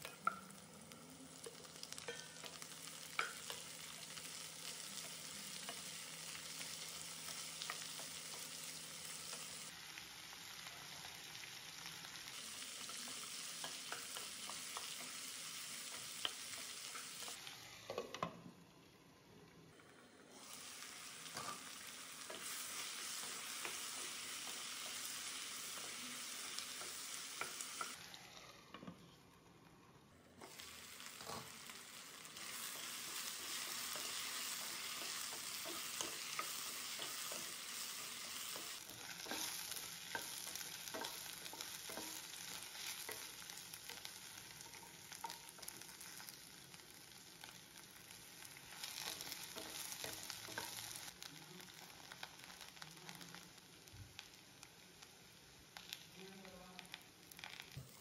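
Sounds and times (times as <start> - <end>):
vegetables sizzling in oil: 0.0 - 18.9, 19.7 - 29.4, 30.3 - 58.0.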